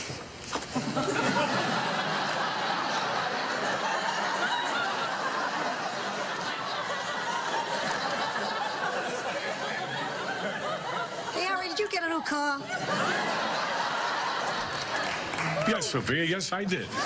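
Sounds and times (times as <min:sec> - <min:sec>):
studio audience laughing: 0:00.7 - 0:16.0, 0:16.7 - 0:17.0.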